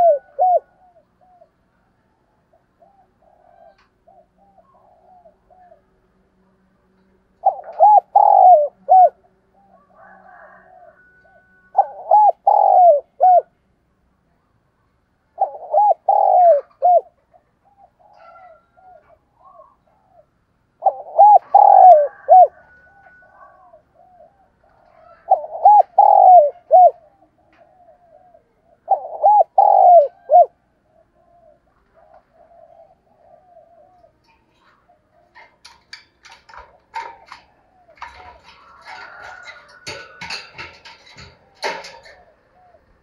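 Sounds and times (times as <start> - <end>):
dove cooing: 0.0 - 6.2, 7.3 - 13.6, 15.4 - 43.0.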